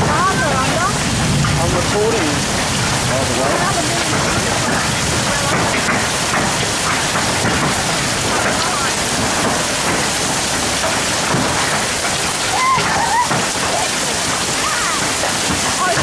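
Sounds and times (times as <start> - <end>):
hail and heavy rain: 0.0 - 16.0.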